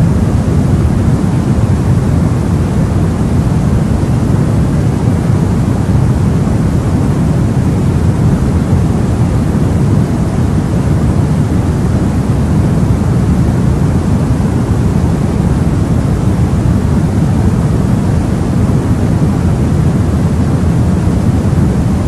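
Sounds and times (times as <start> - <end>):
deep white noise: 0.0 - 22.0.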